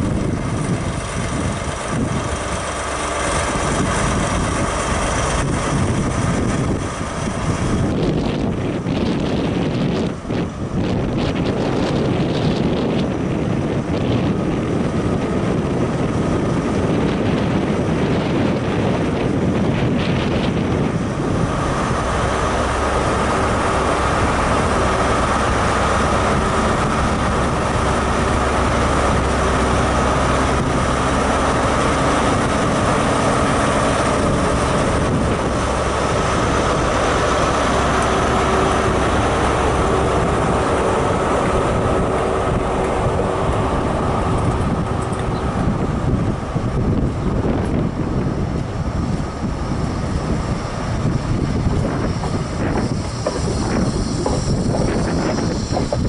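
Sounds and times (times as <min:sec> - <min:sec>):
diesel engine droning: 0:00.0 - 0:56.0
steady whine: 0:00.0 - 0:56.0
train coaches rolling by: 0:00.0 - 0:56.0
train rushing past: 0:00.0 - 0:56.0
wind on microphone: 0:00.0 - 0:56.0.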